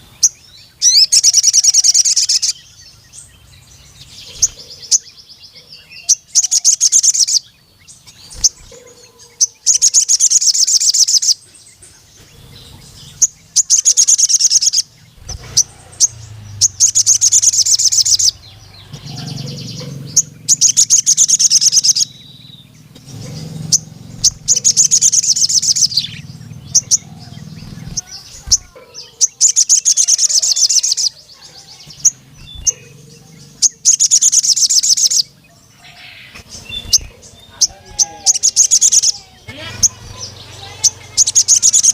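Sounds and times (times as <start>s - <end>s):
sharp bird chirps: 0.0s - 41.9s
sunbird trilling song: 0.0s - 41.9s.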